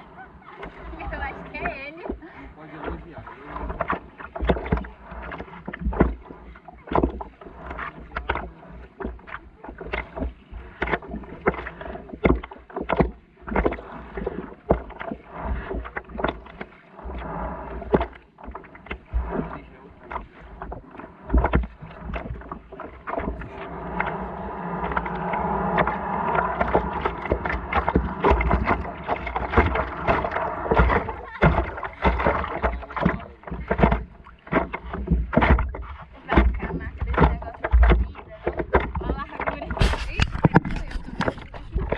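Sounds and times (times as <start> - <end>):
low water wash: 0.0 - 41.9
small waves slapping a paddleboard: 0.0 - 41.9.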